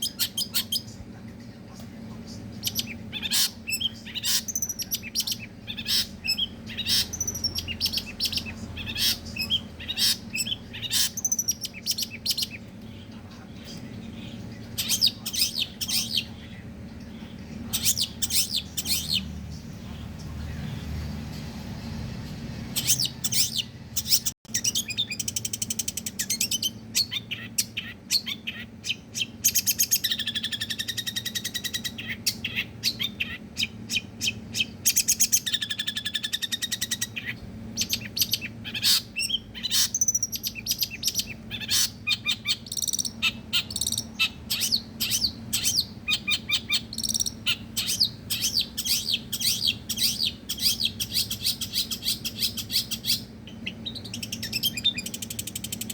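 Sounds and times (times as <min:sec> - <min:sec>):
bird chattering and whistling: 0:00.0 - 0:01.0, 0:02.4 - 0:13.1, 0:14.1 - 0:16.7, 0:17.6 - 0:19.3, 0:22.7 - 0:55.9.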